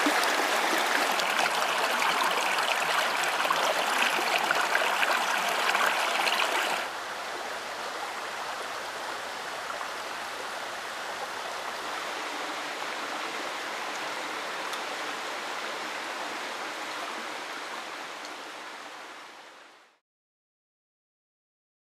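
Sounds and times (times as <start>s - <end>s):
creek running over stones: 0.0s - 18.9s.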